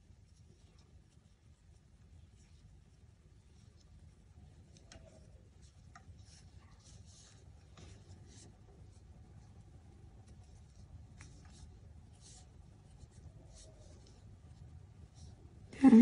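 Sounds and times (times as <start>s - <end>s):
crochet hook scratching yarn: 0.0s - 15.4s
low steady hum: 0.0s - 16.0s.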